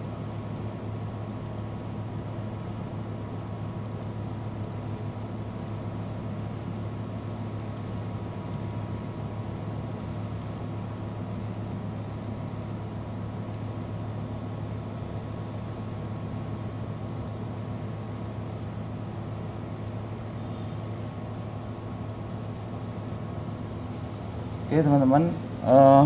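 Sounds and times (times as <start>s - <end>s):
computer fans humming: 0.0s - 26.0s.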